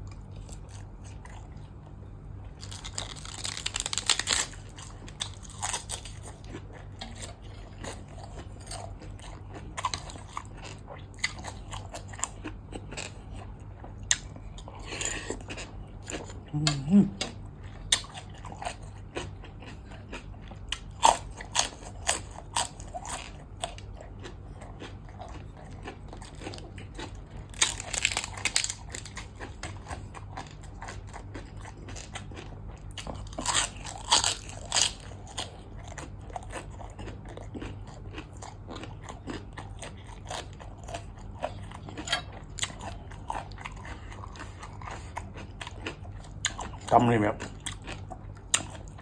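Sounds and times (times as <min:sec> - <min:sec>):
crunchy chewing: 0:00.0 - 0:49.0.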